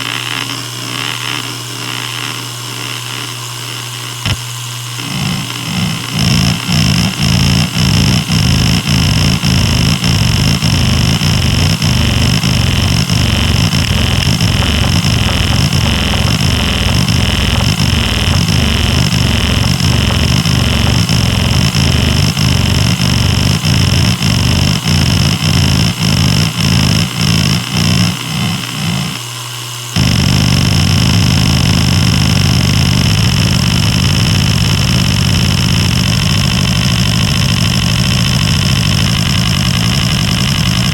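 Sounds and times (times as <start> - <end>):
hard drive seek chatter: 0.0 - 40.9
hard drive spindle whine: 0.0 - 40.9.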